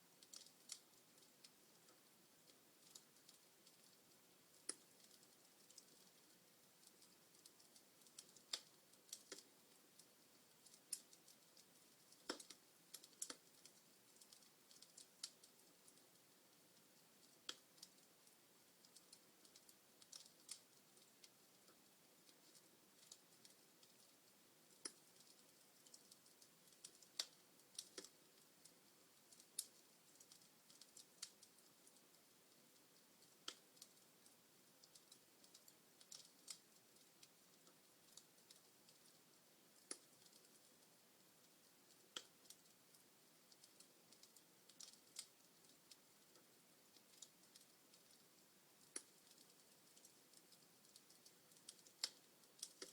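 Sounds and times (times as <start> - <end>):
log fire crackling: 0.0 - 52.9.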